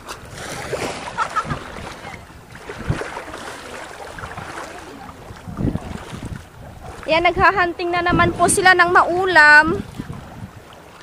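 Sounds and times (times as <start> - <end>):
shallow water lapping: 0.0 - 11.0
wind buffeting microphone: 0.0 - 11.0.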